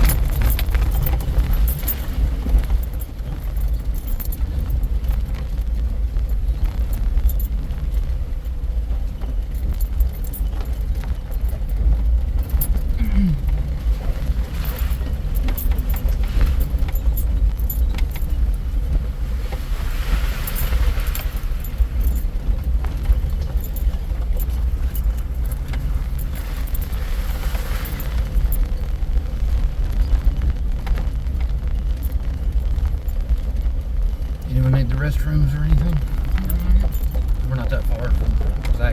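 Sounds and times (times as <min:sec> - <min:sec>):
vehicle drivetrain rumble: 0:00.0 - 0:38.9.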